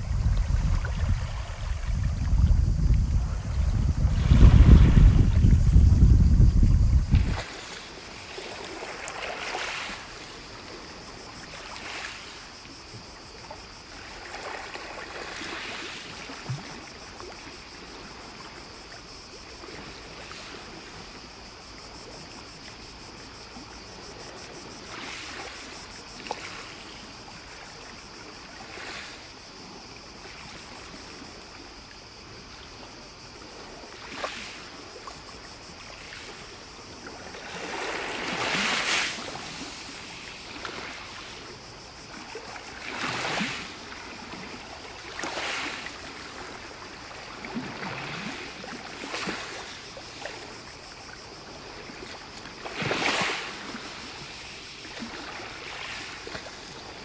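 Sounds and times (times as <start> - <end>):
small waves lapping on a beach: 0.0 - 57.0.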